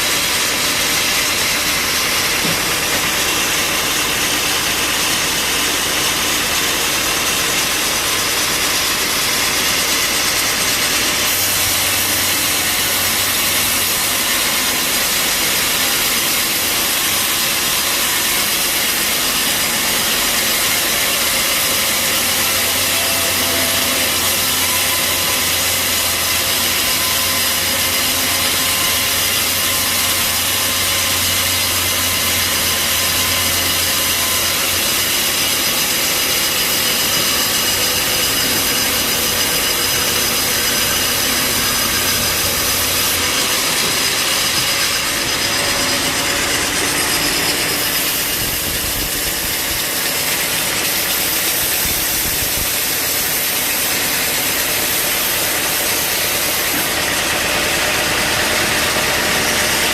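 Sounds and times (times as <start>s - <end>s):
bandsaw cutting log: 0.0s - 59.9s.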